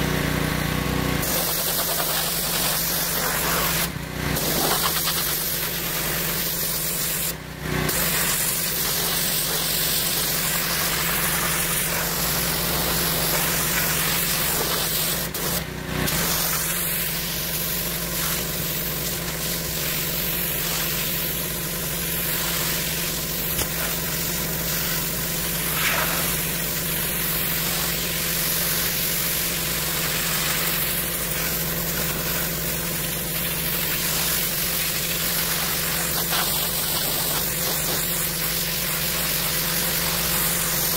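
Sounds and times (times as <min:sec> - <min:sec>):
pressure washer engine hum: 0:00.0 - 0:40.9
water spray hissing: 0:01.2 - 0:40.9.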